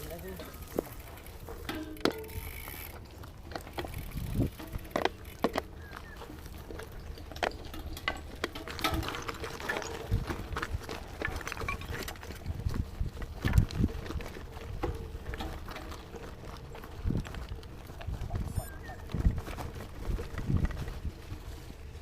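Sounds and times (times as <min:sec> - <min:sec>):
bike knocking and rattling: 0:00.0 - 0:22.0
tyres rumbling on gravel: 0:00.0 - 0:22.0.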